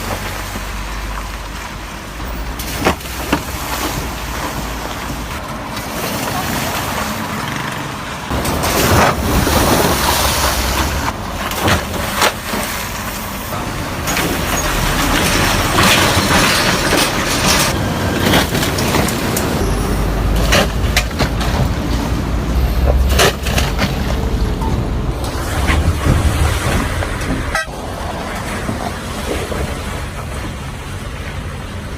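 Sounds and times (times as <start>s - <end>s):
car road and engine rumble: 0.0s - 31.9s.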